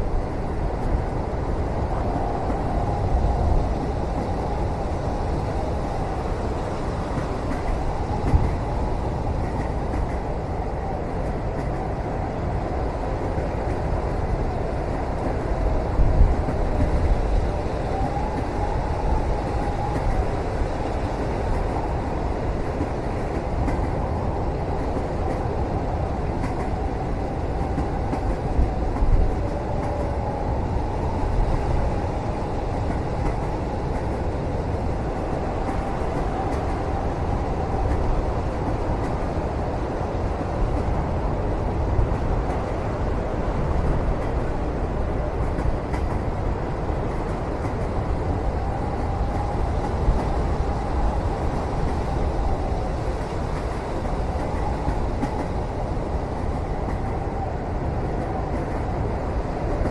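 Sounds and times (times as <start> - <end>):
train rumbling inside cabin: 0.0 - 59.9.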